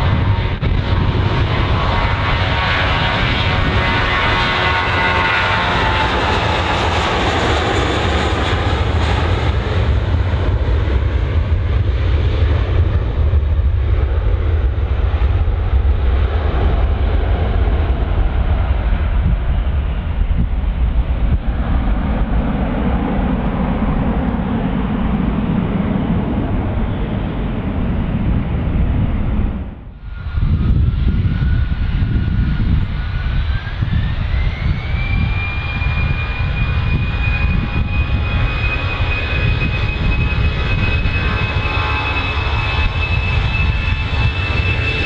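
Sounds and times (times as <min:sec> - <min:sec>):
high jet engine whine: 0:00.0 - 0:45.0
jet engines rumbling: 0:00.0 - 0:45.0.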